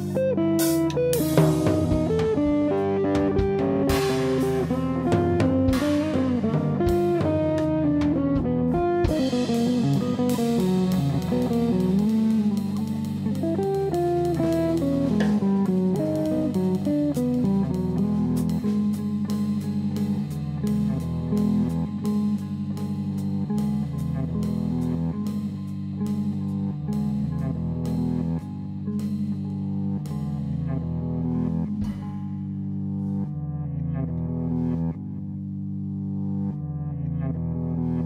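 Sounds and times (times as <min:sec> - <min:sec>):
drum kit: 0:00.0 - 0:33.2
electric guitar playing: 0:00.0 - 0:38.0.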